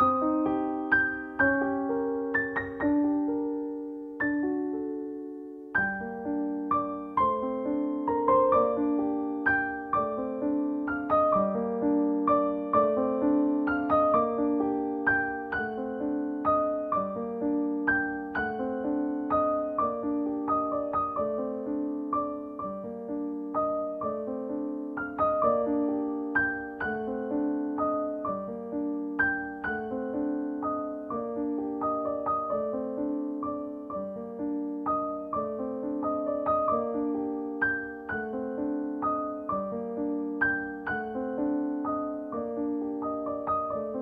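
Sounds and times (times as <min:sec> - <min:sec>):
gentle keyboard melody: 0:00.0 - 0:44.0.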